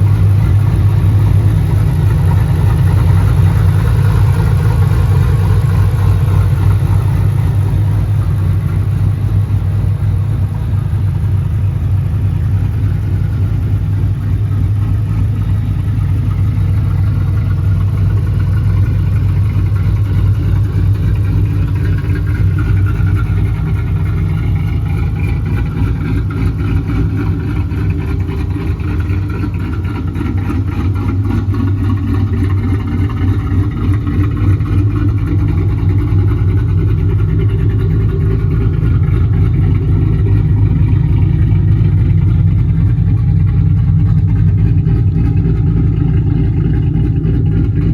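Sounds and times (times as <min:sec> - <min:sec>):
car engine idling with lumpy lope: 0:00.0 - 0:47.9.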